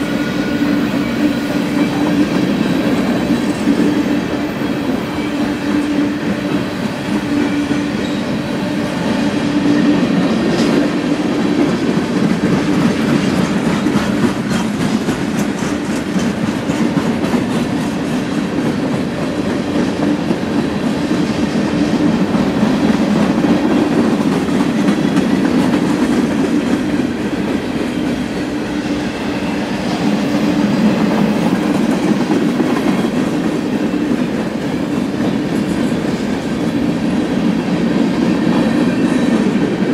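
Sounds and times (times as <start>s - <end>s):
freight train wheels rumbling: 0.0s - 39.9s
wheels clickety-clack: 0.2s - 39.9s.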